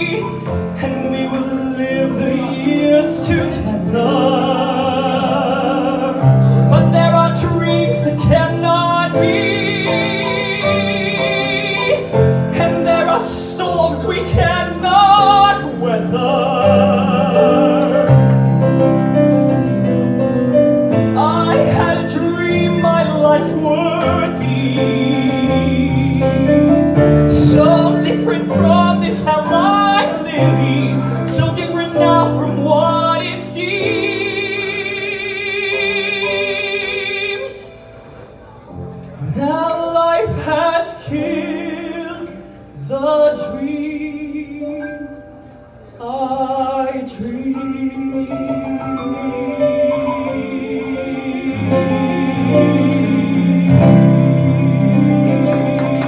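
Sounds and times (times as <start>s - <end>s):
man singing a ballad: 0.0s - 18.6s, 21.1s - 37.8s, 39.2s - 45.3s, 46.0s - 56.0s
grand piano: 0.0s - 56.0s.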